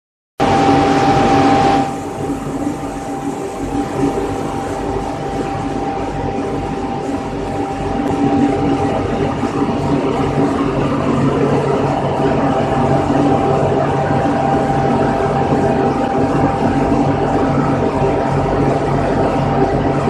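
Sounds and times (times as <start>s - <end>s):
loud machine drone: 0.4s - 20.0s
thin steady whine: 0.4s - 20.0s.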